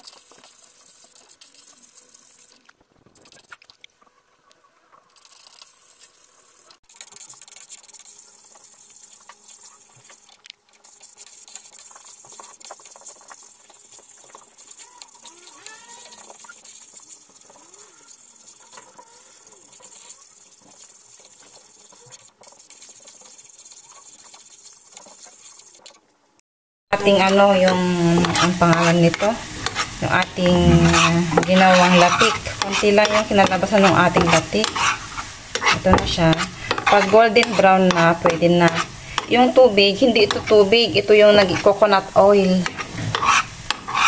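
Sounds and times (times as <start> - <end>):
frying curds sizzling and bubbling: 0.0 - 26.1, 27.0 - 44.0
spoon stirring in a pan: 6.9 - 25.9, 27.0 - 44.0.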